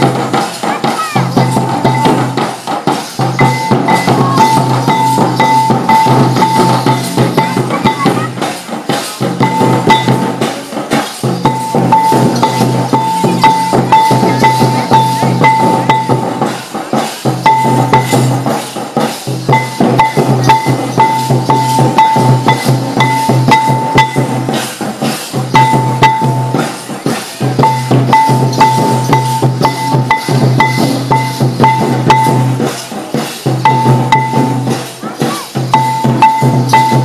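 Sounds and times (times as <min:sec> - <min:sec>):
busy drumming: 0:00.0 - 0:37.0.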